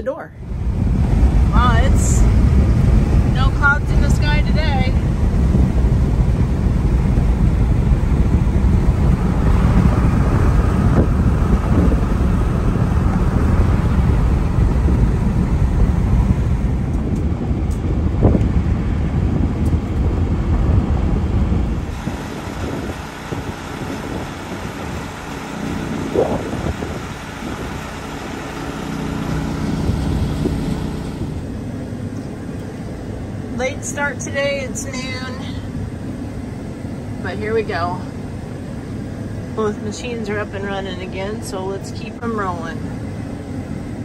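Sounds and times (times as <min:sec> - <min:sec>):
vehicle engine and road noise: 0:00.0 - 0:44.0.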